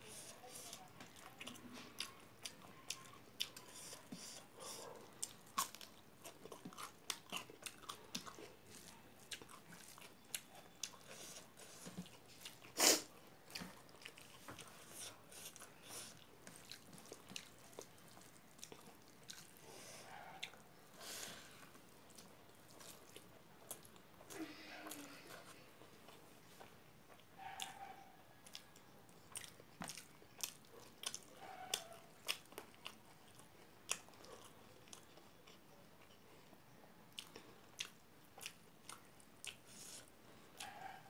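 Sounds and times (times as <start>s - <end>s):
chewing and lip smacking: 0.1s - 20.9s, 21.6s - 25.4s, 26.0s - 41.0s.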